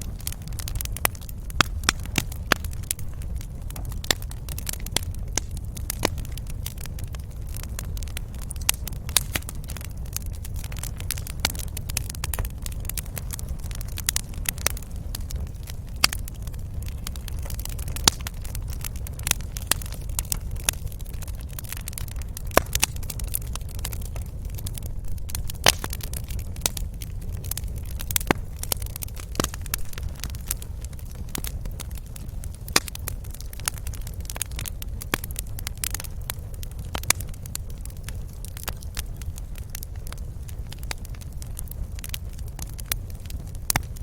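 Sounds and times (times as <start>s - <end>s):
steady low rumble: 0.0s - 44.0s
wood fire crackling and popping: 0.0s - 44.0s.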